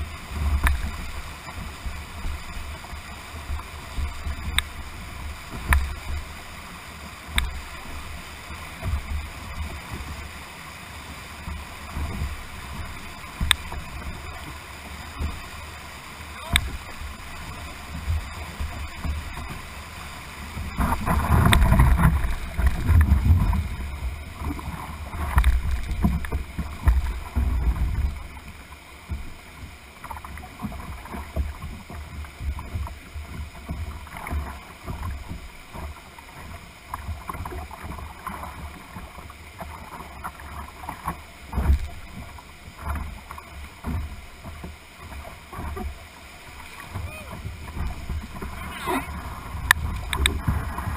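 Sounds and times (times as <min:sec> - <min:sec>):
whitewater rushing: 0:00.0 - 0:31.7, 0:36.9 - 0:50.9
water slapping against hull: 0:00.0 - 0:50.9.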